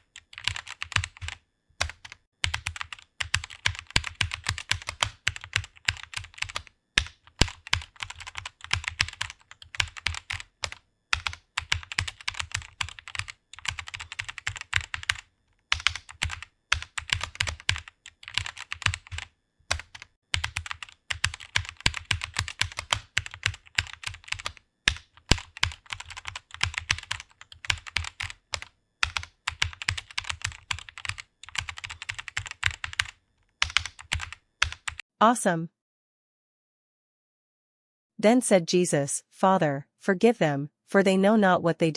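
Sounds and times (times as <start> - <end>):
fast typing on keyboard: 0.0 - 35.0.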